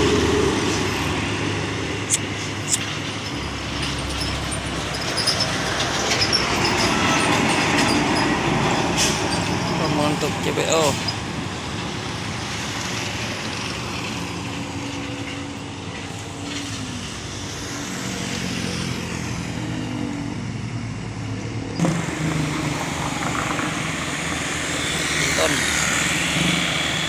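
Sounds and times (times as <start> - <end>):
heavy trucks driving past: 0.0 - 27.0.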